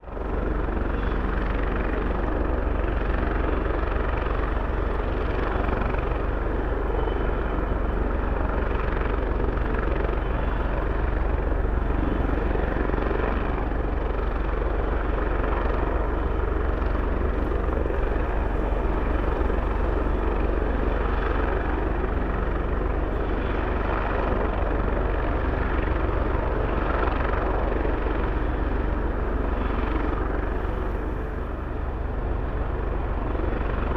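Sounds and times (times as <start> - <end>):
helicopter turbine noise: 0.0 - 33.9
helicopter rotor beating: 0.1 - 33.9.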